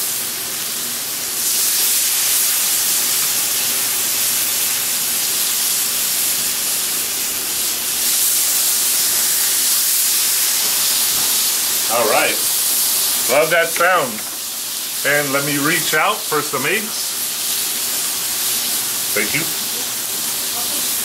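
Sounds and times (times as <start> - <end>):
steaks sizzling on a griddle: 0.0 - 21.0.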